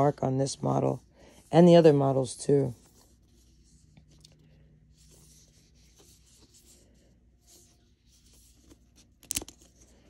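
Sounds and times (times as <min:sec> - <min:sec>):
faint scratchy rustling: 0:00.0 - 0:10.0.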